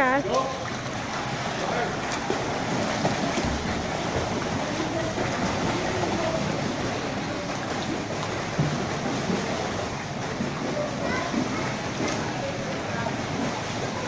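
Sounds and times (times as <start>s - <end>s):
splashing of swimming kicks: 0.3s - 14.0s.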